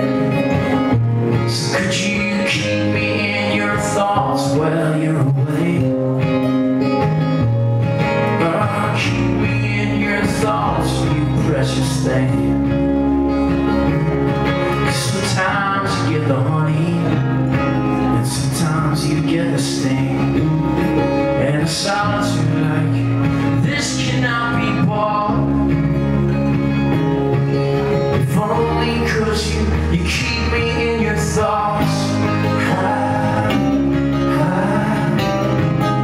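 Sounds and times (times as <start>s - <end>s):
man singing: 0.0s - 6.8s, 8.1s - 13.0s, 14.6s - 25.9s, 28.0s - 36.0s
strummed acoustic guitar: 0.0s - 36.0s.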